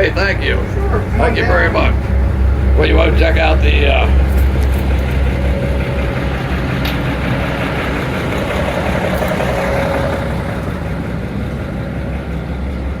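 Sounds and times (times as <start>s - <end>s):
locomotive diesel engine idling: 0.0s - 13.0s.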